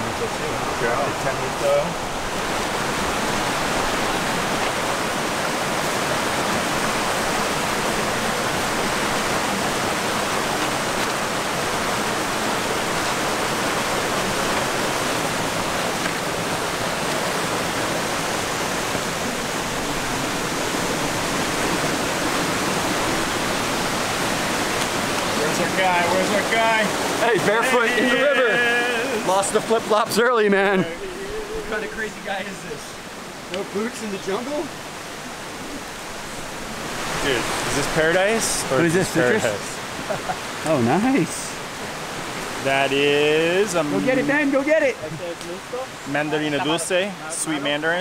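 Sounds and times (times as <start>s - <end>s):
river rushing over boulders: 0.0s - 48.0s.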